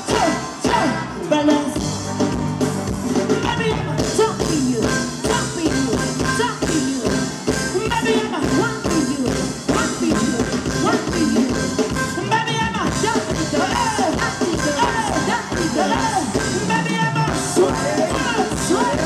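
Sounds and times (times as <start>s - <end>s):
live band playing dance music: 0.0s - 19.0s.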